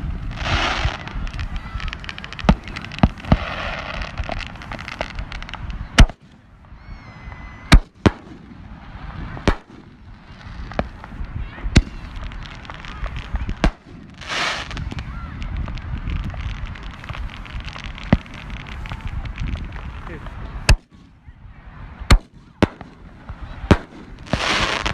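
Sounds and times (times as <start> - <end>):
fireworks banging: 0.0 - 24.9
fireworks crackling: 0.0 - 24.9.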